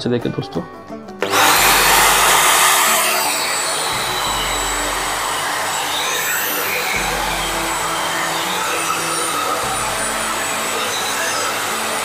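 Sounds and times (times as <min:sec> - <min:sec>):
handheld vacuum cleaner running: 0:01.2 - 0:12.0.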